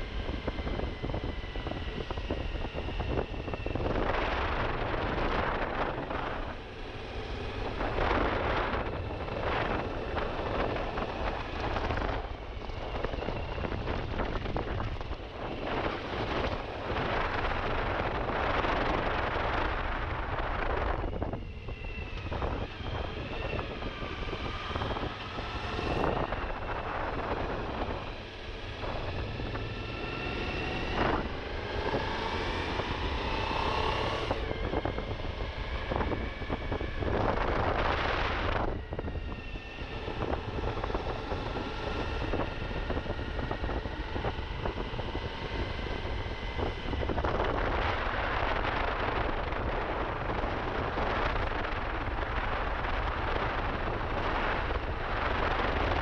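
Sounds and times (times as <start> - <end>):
wind noise on microphone: 0.0 - 56.0.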